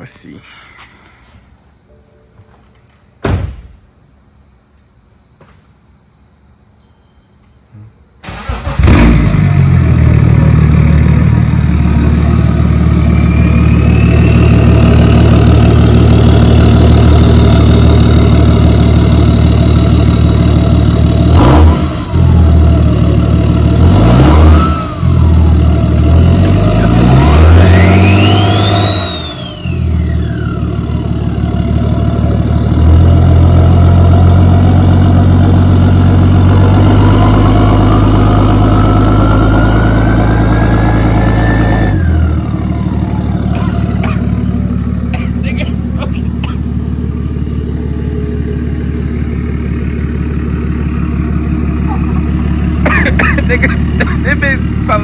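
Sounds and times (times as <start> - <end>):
diesel engine starting and revving: 8.2 - 55.0.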